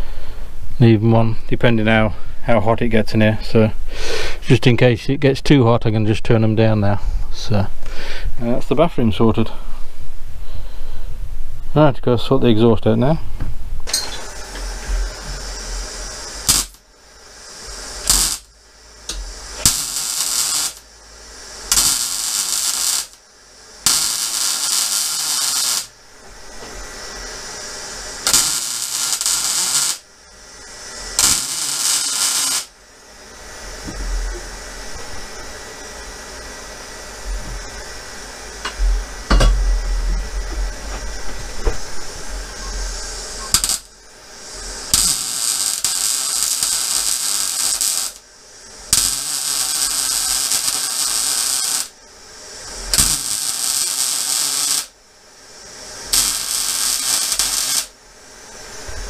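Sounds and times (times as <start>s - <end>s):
arc welder crackling hiss: 0.0s - 5.0s, 6.0s - 59.0s.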